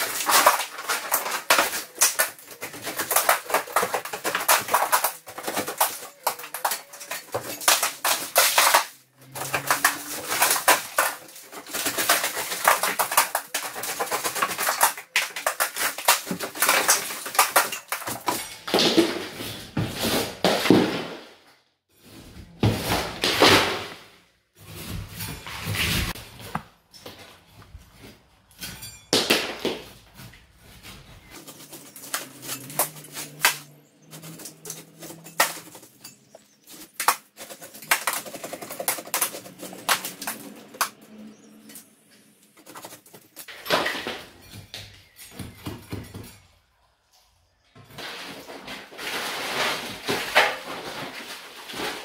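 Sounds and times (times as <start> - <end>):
plaster chunks crashing to floor: 0.0 - 21.3, 28.6 - 41.0, 42.6 - 46.4, 47.8 - 52.0
debris falling: 0.0 - 21.4, 22.5 - 41.0, 42.5 - 46.3, 47.8 - 52.0.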